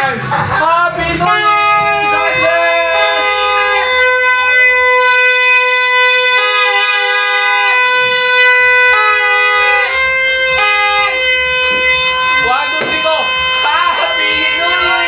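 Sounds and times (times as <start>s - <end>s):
noisemaker horns blowing: 0.9s - 15.0s.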